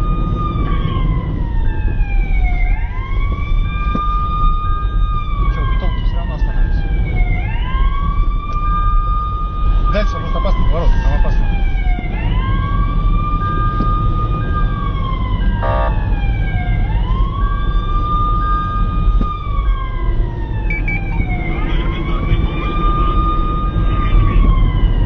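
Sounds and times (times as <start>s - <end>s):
engine and road rumble: 0.0s - 25.0s
siren wailing: 0.0s - 25.0s.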